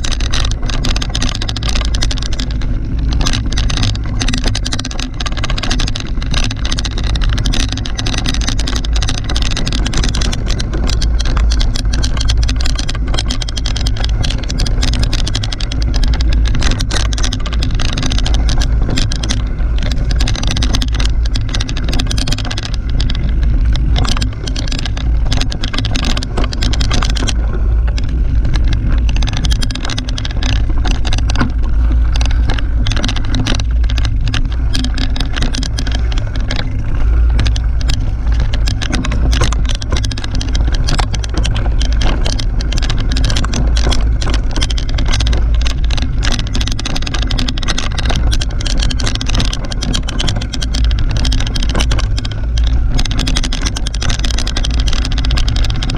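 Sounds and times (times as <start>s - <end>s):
bike rattling and knocking: 0.0s - 55.9s
wind rumble on microphone: 0.0s - 55.9s.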